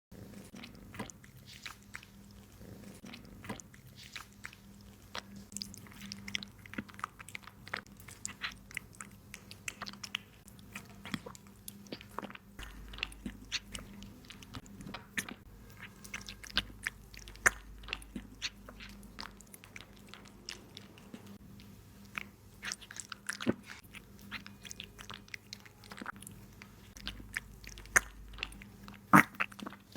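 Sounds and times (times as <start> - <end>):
kitten chewing meat: 0.2 - 29.9.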